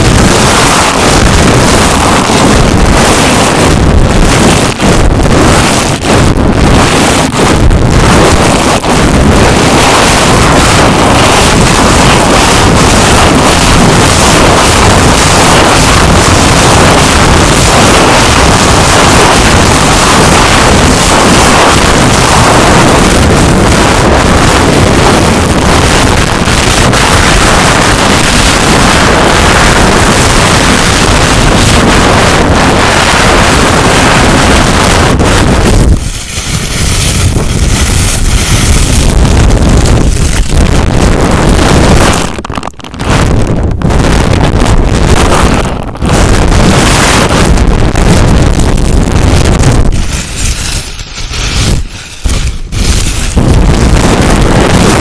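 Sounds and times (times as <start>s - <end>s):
dense friction noise on microphone: 0.0s - 55.0s.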